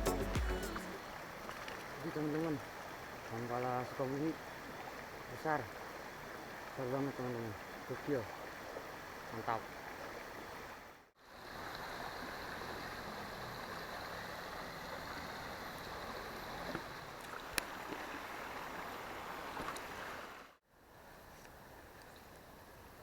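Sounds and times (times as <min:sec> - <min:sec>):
river water rushing: 0:00.0 - 0:20.6.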